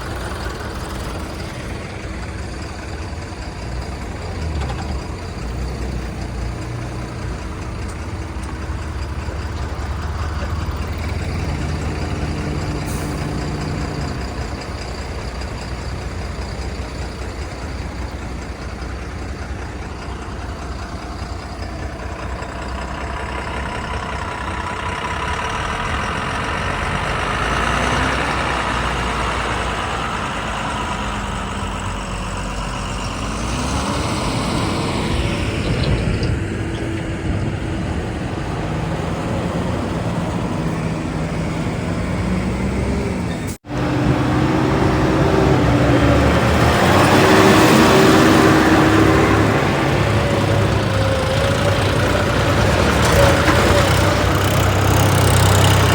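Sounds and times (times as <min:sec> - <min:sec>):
heavy diesel engines revving: 0:00.0 - 0:55.9.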